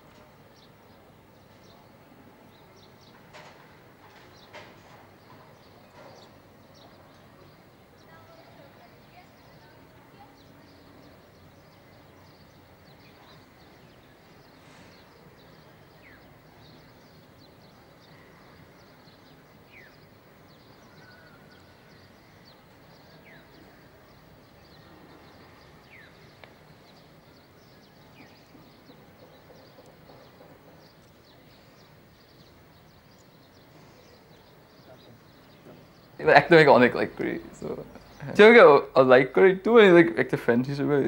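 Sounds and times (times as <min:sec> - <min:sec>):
faint background ambience: 0:00.0 - 0:41.0.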